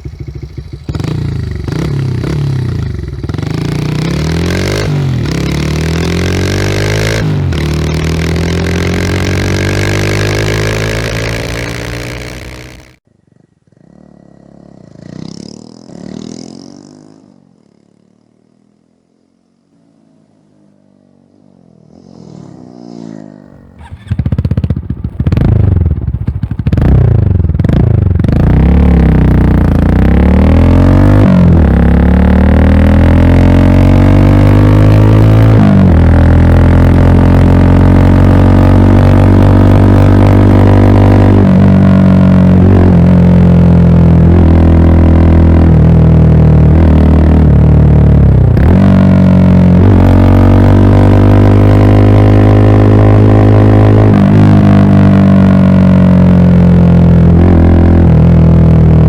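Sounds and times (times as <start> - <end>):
motorcycle engine revving: 0.0 - 18.9, 21.2 - 59.0.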